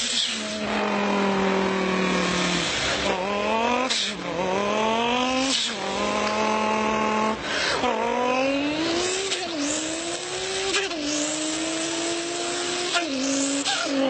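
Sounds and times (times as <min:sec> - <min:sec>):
person imitating car engine: 0:00.0 - 0:14.0.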